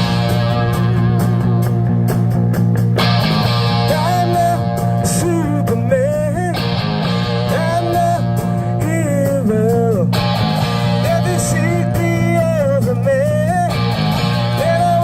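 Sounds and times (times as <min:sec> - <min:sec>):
live punk rock band: 0:00.0 - 0:15.0.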